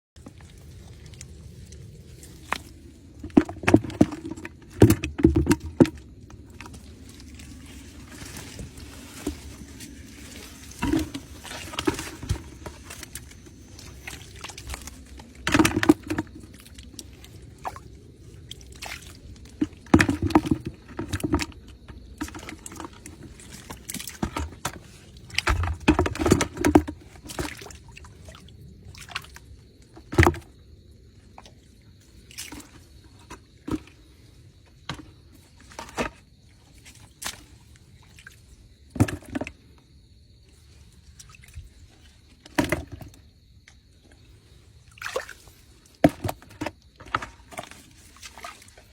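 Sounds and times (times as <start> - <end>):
water splashing and sloshing: 0.2 - 48.9.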